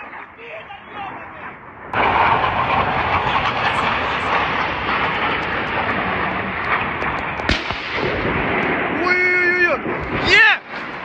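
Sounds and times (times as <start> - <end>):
jet roar passing overhead: 0.0 - 11.0
sharp bang: 2.0 - 11.0.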